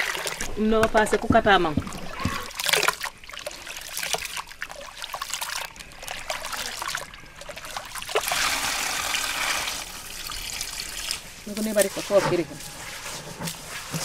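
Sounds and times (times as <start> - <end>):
water pouring into bucket: 0.0 - 0.6, 1.9 - 14.0.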